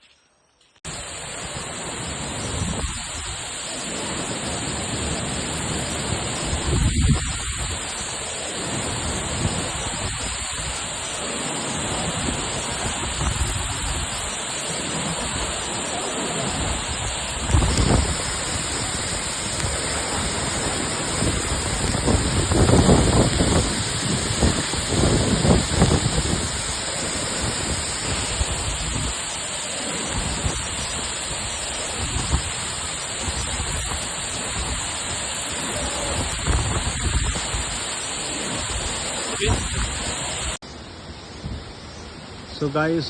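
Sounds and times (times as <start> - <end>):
waterfall rushing water: 0.9 - 43.0.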